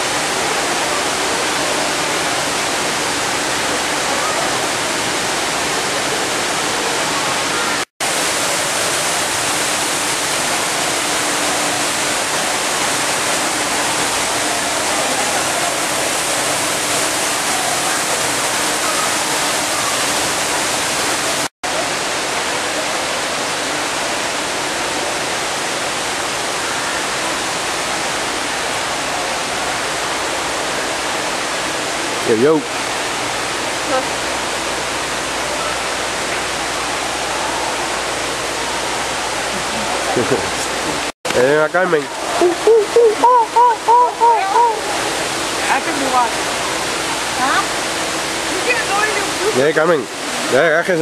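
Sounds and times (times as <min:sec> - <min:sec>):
waterfall rushing over rock: 0:00.0 - 0:51.0.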